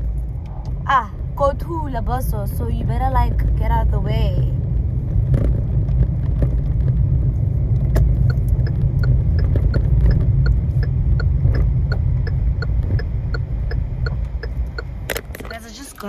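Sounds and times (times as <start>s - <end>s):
car road and engine rumble: 0.0s - 16.0s
turn signal ticking: 0.0s - 16.0s.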